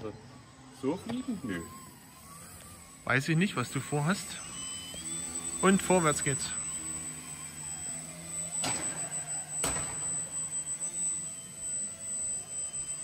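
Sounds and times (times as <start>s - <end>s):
electric motor and propeller hum: 0.0s - 13.0s.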